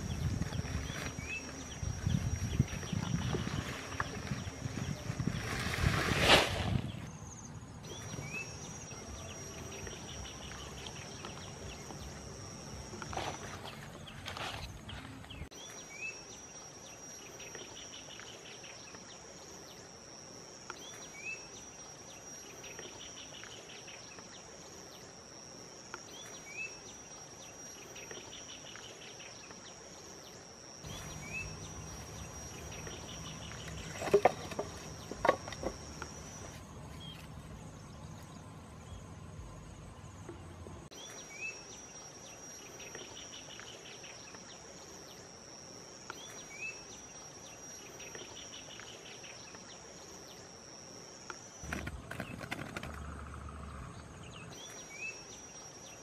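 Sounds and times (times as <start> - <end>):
high insect trill: 0.0 - 56.0.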